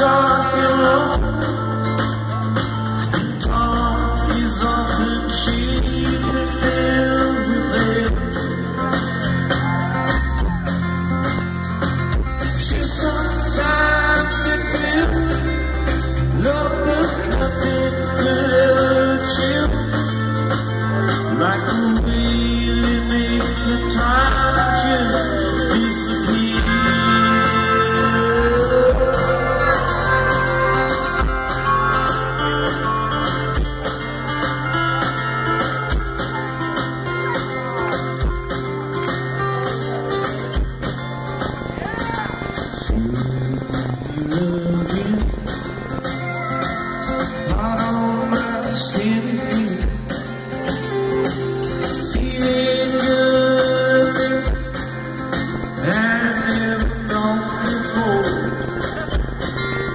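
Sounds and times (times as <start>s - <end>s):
acoustic guitar: 0.0s - 59.9s
drums: 0.0s - 59.9s
electric bass: 0.0s - 59.9s
keyboard: 0.0s - 59.9s.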